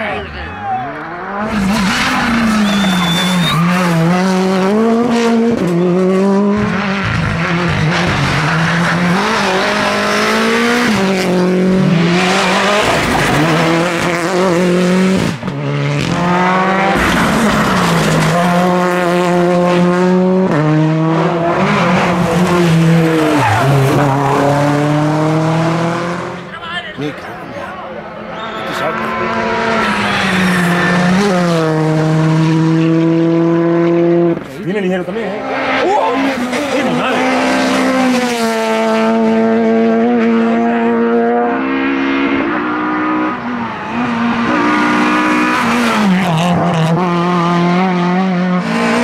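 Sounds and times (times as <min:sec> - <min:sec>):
rally car engines at full throttle: 0:00.0 - 0:49.0.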